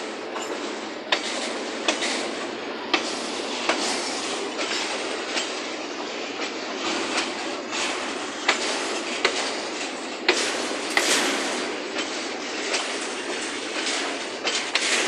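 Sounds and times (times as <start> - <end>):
freight train wheels rumbling: 0.0 - 15.0
wheels clacking over rail joints: 0.0 - 15.0.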